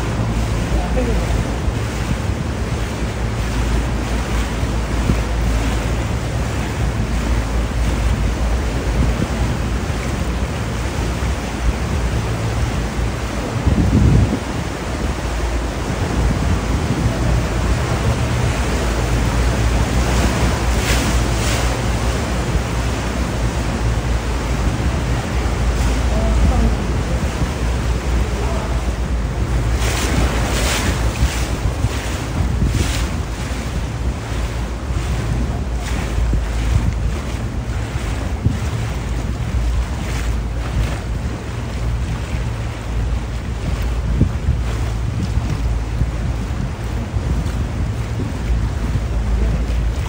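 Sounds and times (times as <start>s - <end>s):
steady rushing noise: 0.0s - 50.0s
strong low rumble: 0.0s - 50.0s.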